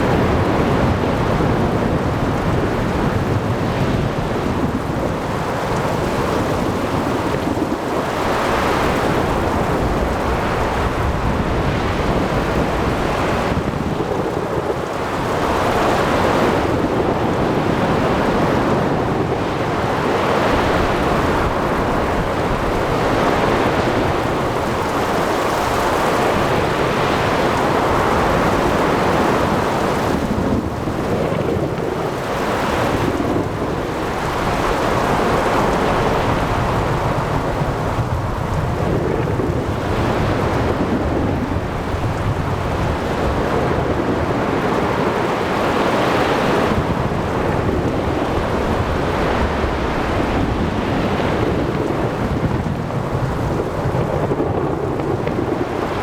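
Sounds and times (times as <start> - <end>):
crashing waves: 0.0 - 56.0
rain: 0.0 - 56.0
wind: 0.0 - 56.0.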